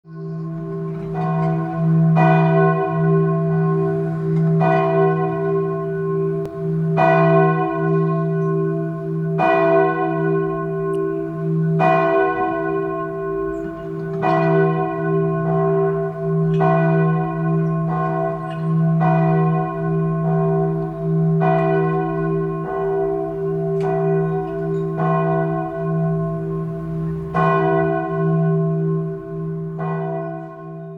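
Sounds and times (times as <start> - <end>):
church bell tolling: 0.1 - 30.9.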